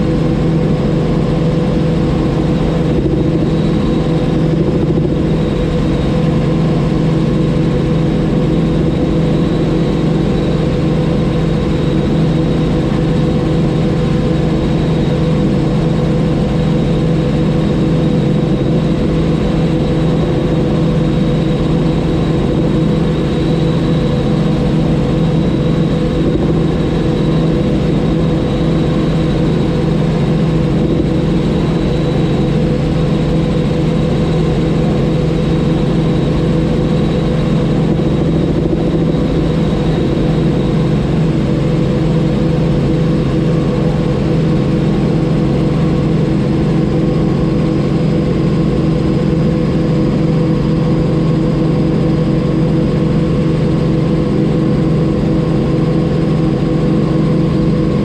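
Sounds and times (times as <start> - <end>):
helicopter engine and rotors droning: 0.0 - 58.0.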